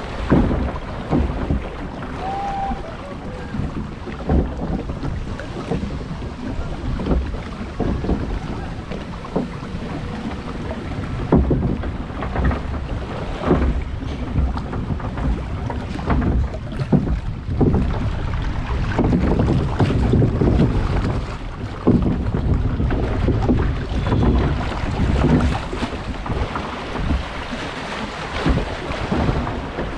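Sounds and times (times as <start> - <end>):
rushing churning water: 0.0 - 29.9
wind buffeting microphone: 0.0 - 29.9.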